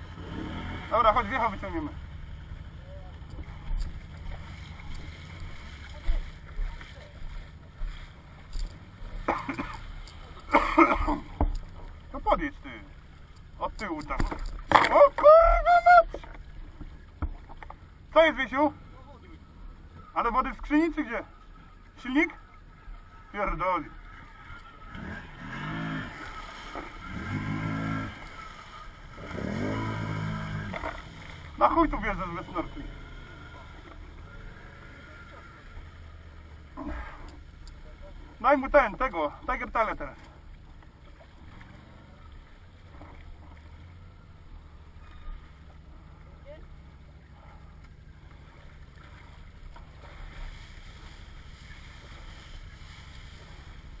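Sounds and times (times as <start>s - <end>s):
atv engine revving: 0.0s - 54.0s
water sloshing: 0.0s - 54.0s.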